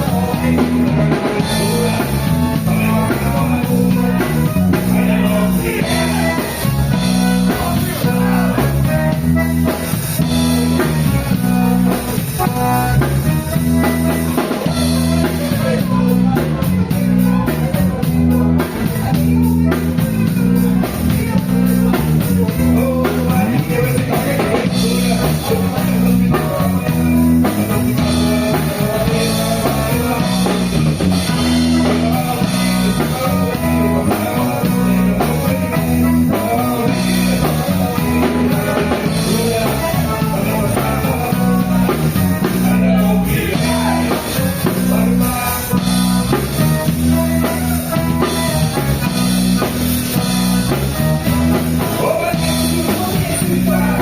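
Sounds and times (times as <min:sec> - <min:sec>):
band playing: 0:00.0 - 0:54.0
person singing: 0:00.0 - 0:54.0.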